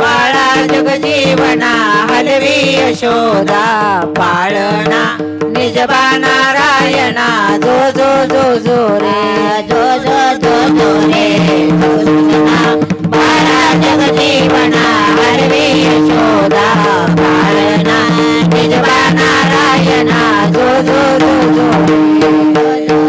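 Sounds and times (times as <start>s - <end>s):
tabla rhythm: 0.0s - 23.0s.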